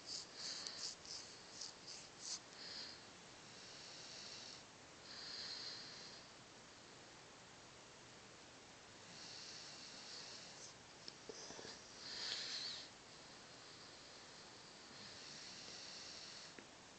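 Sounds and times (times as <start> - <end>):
dog snoring: 0.0 - 6.3, 9.0 - 16.6.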